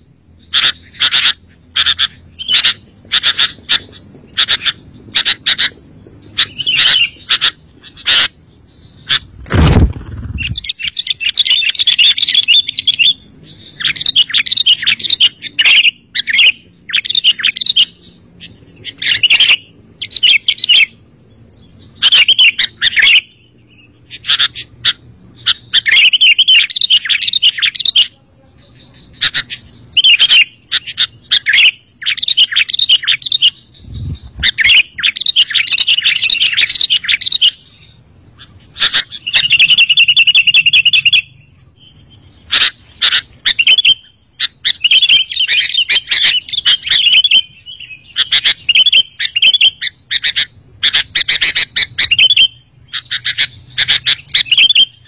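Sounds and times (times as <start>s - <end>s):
bird singing chirping phrases: 0.0s - 55.0s.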